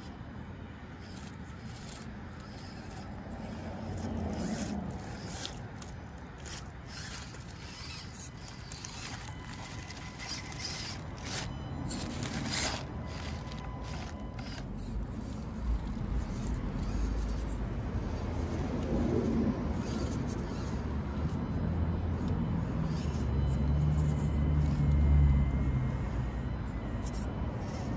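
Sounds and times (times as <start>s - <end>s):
faint steady whine: 0.0s - 27.9s
tires scraping on leaves and rocks: 0.9s - 27.9s.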